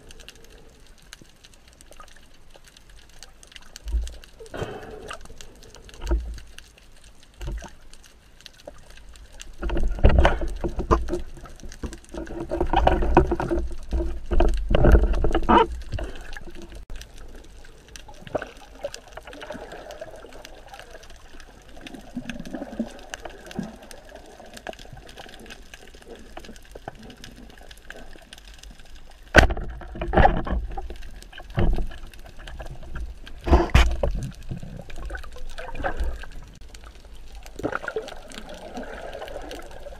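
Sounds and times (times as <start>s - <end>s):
underwater rushing and gurgling: 0.0s - 39.9s.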